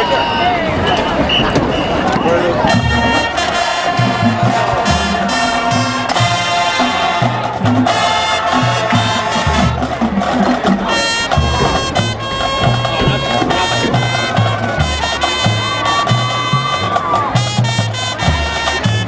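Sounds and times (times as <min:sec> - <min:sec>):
brass section playing chords: 0:02.5 - 0:19.0
drum hits: 0:02.7 - 0:19.0.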